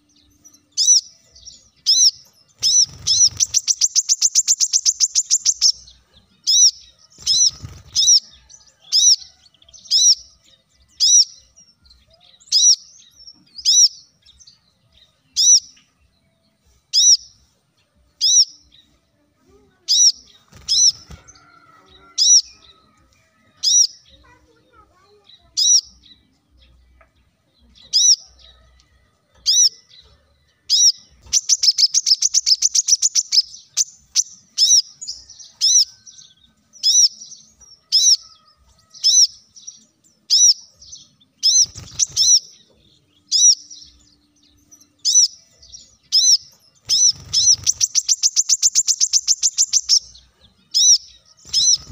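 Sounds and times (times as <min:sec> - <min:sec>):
bird chirping and trilling: 0:00.0 - 0:17.4, 0:18.2 - 0:18.9, 0:19.8 - 0:24.5, 0:25.1 - 0:26.8, 0:27.6 - 0:28.6, 0:29.3 - 0:51.9.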